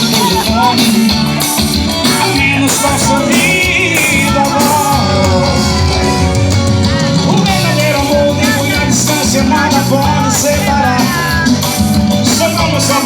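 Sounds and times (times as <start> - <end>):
band music with steady beat: 0.0 - 13.0
wavering lead melody: 0.0 - 13.0.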